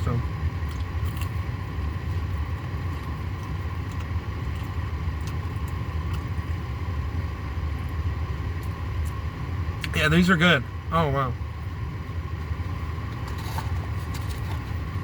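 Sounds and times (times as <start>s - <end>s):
car engine idling: 0.0s - 15.0s
faint steady hum: 0.0s - 15.0s.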